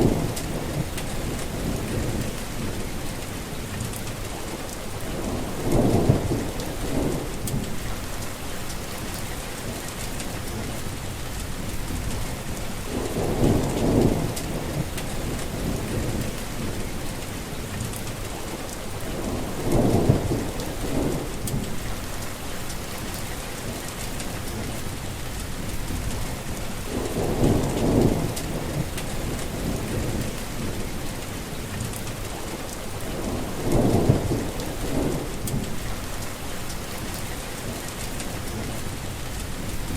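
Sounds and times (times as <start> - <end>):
low thunder rumble: 0.0 - 4.3, 4.9 - 18.3, 18.9 - 39.9
heavy rain hissing: 0.0 - 39.9.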